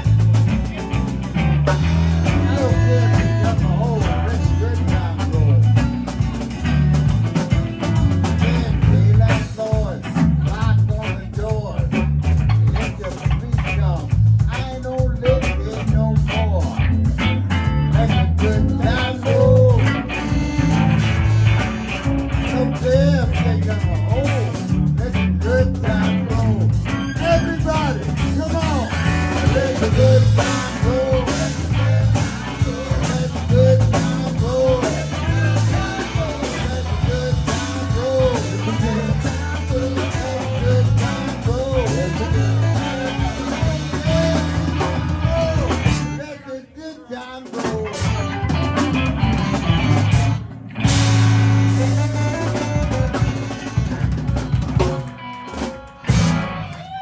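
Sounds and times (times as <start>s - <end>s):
lead guitar bending notes: 0.0s - 9.4s, 16.3s - 46.2s, 48.0s - 56.8s
blues band playing: 0.0s - 46.5s, 47.1s - 57.0s.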